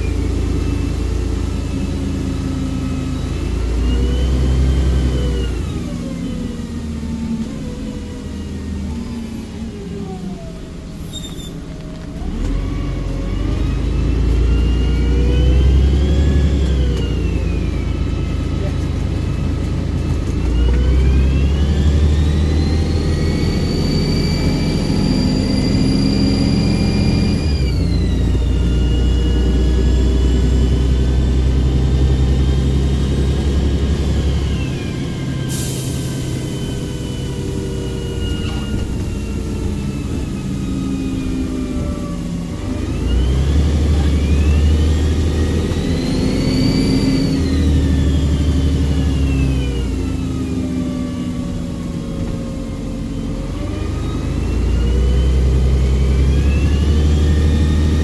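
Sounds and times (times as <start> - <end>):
bus engine pulling under load: 0.0 - 58.0.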